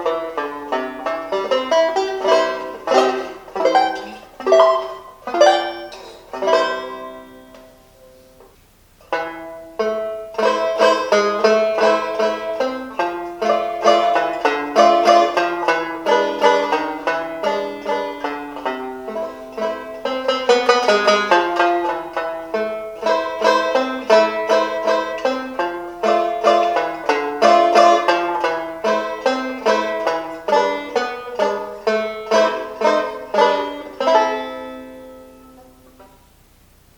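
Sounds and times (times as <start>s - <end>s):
banjo picking: 0.0s - 36.9s.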